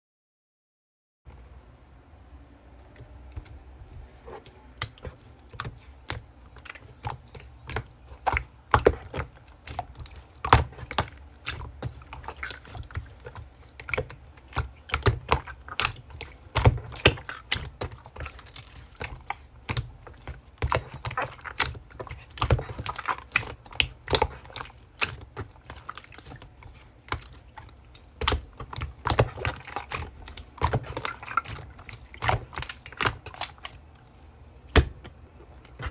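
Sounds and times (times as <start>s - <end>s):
slime squished by hand: 4.2s - 35.9s.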